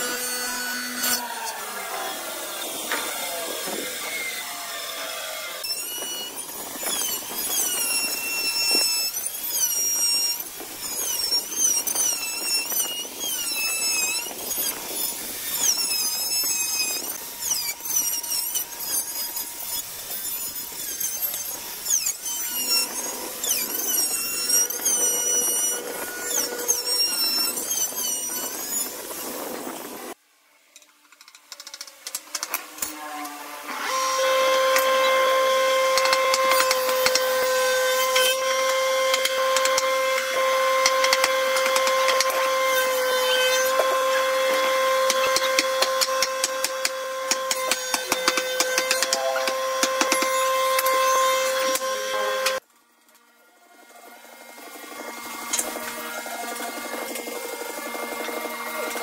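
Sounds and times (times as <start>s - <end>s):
electric router whining: 0.0s - 30.2s, 32.5s - 52.6s, 53.6s - 59.0s
spindle moulder cutting: 0.0s - 30.2s, 31.6s - 52.6s.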